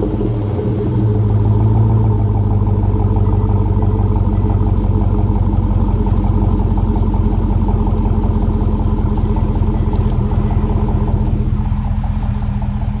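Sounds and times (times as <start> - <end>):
engine exhaust idling: 0.0 - 13.0.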